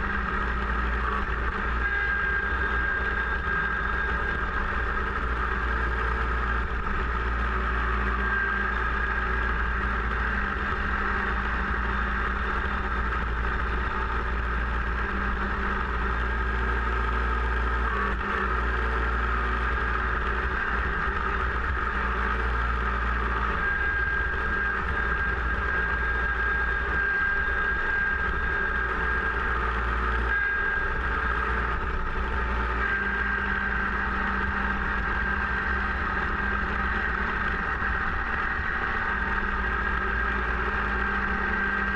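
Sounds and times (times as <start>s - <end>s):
snowblower high whine: 0.0s - 41.9s
tractor diesel engine running: 0.0s - 41.9s.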